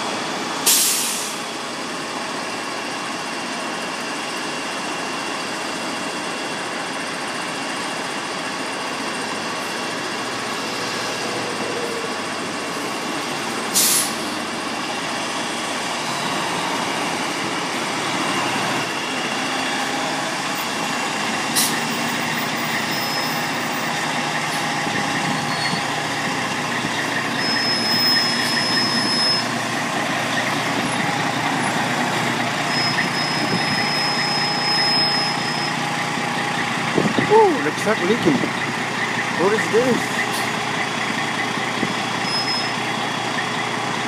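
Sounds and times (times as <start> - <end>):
fire engine running: 0.0 - 44.0.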